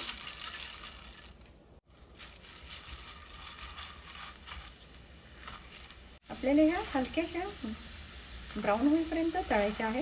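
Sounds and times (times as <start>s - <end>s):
lentils sizzling in hot oil: 0.0s - 10.0s.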